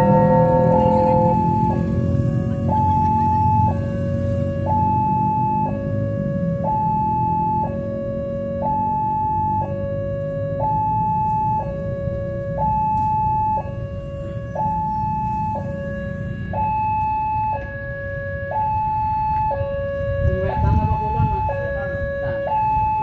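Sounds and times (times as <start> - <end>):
two-tone crossing warning siren: 0.0 - 23.0.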